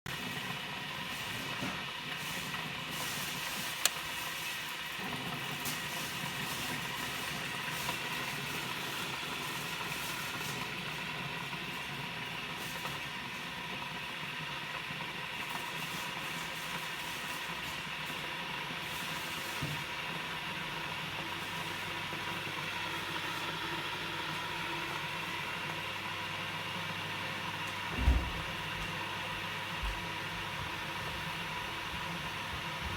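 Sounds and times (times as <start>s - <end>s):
coffee machine hissing: 0.1s - 32.9s
mechanical hum: 0.1s - 32.9s.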